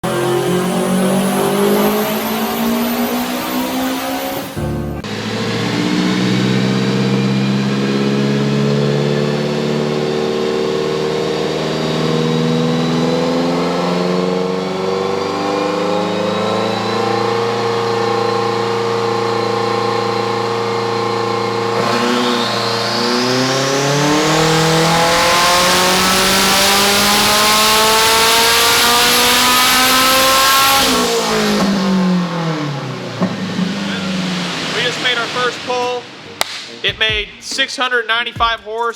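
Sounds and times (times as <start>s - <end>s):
high turbo whine: 0.0s - 36.9s
race car engine revving: 0.0s - 36.9s.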